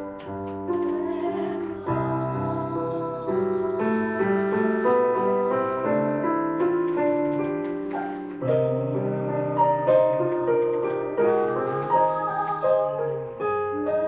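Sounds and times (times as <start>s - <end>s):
slow piano chords and melody: 0.0s - 14.0s.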